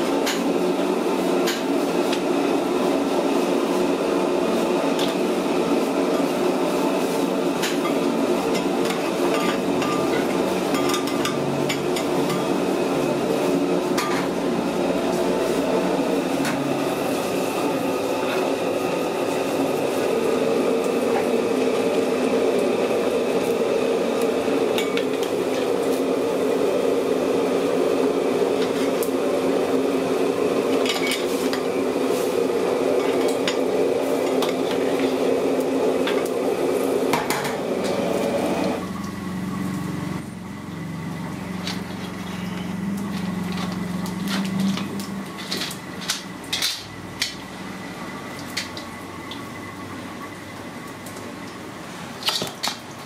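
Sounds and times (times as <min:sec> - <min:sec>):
water boiling in a wok: 0:00.0 - 0:53.0.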